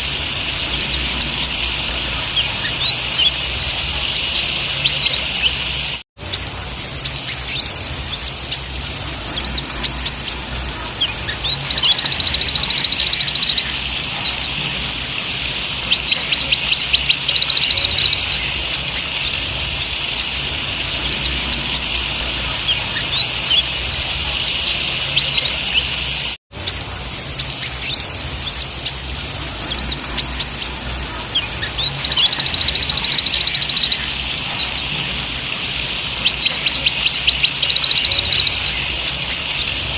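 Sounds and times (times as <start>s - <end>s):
birds chirping and trilling: 0.0s - 39.9s
steady hiss: 0.0s - 39.9s.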